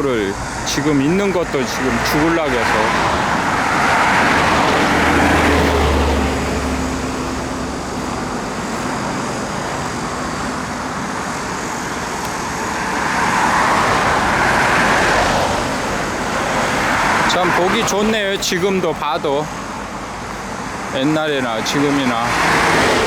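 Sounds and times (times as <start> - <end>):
low engine hum: 0.0 - 23.0
road traffic passing: 0.0 - 23.0.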